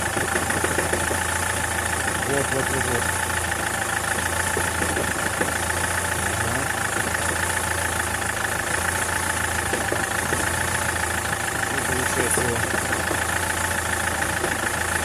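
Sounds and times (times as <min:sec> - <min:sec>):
engine idling with knock: 0:00.0 - 0:15.0.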